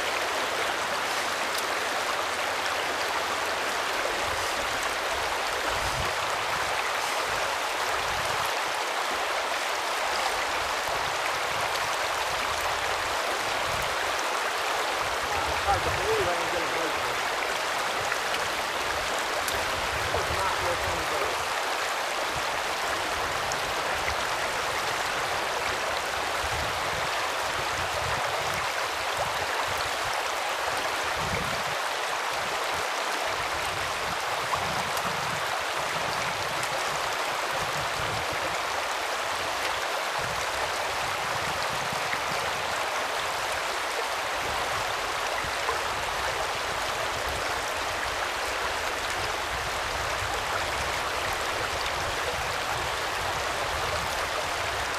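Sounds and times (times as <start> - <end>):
stream water rushing over rocks: 0.0 - 54.9.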